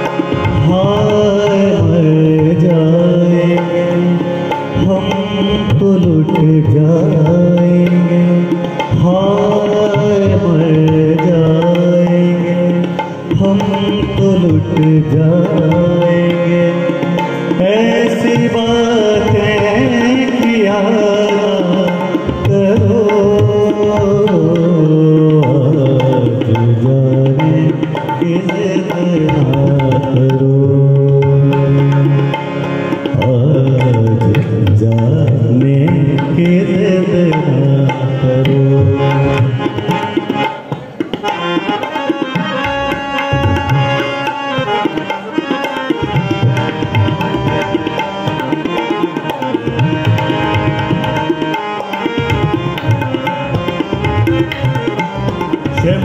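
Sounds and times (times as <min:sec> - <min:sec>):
man singing: 0:00.0 - 0:40.4, 0:41.8 - 0:56.0
harmonium: 0:00.0 - 0:56.0
tabla playing: 0:00.0 - 0:56.0.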